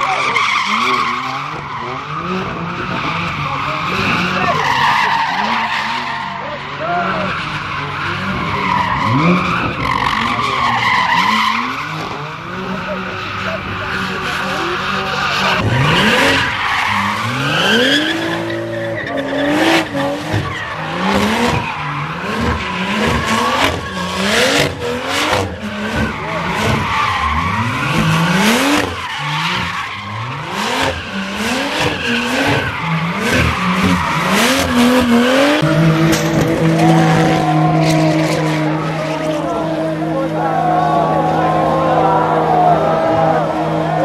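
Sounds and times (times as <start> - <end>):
car engine revving: 0.0 - 44.0
tyres squealing and skidding: 0.0 - 44.0.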